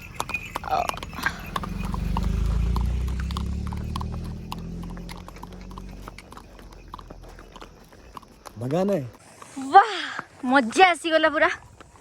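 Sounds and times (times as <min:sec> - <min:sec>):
horse hooves clopping: 0:00.0 - 0:12.0.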